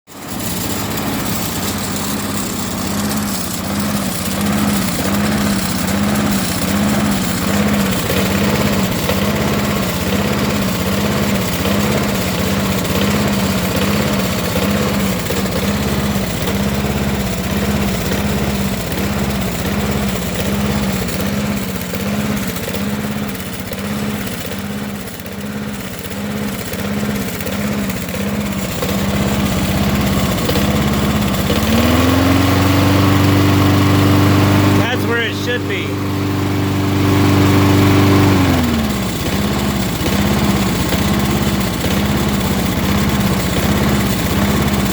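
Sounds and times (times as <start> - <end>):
lawn mower engine idling roughly: 0.1 - 44.9.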